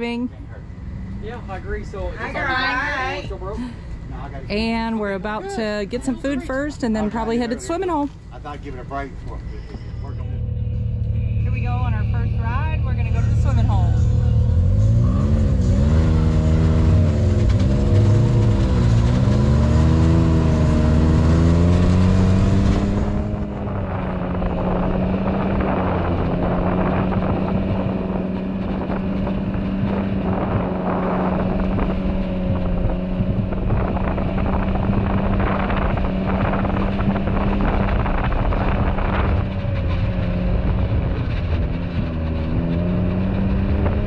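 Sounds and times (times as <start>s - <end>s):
off-road vehicle engine: 0.0s - 44.0s.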